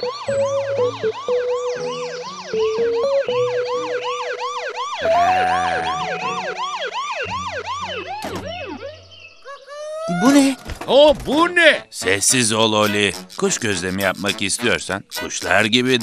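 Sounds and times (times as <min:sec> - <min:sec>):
cartoon birds chirping: 0:00.0 - 0:04.2, 0:05.0 - 0:06.8, 0:07.8 - 0:16.0
background music with held notes: 0:00.0 - 0:09.2, 0:11.8 - 0:16.0.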